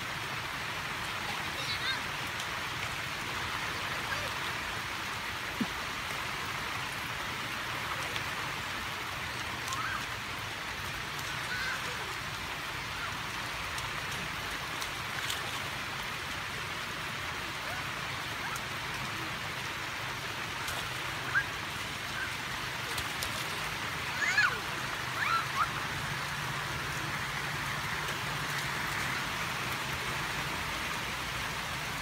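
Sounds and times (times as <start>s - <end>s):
rain falling on water: 0.0s - 32.0s.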